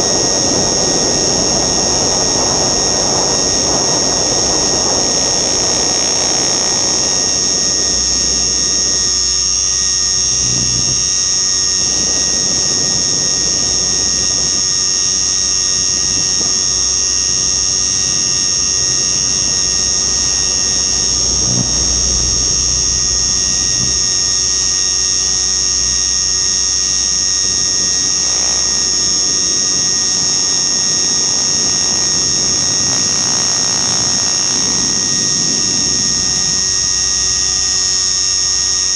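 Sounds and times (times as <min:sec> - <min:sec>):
low wind rumble: 0:00.0 - 0:28.9, 0:30.8 - 0:38.0
radio-controlled helicopter whine: 0:00.0 - 0:38.9.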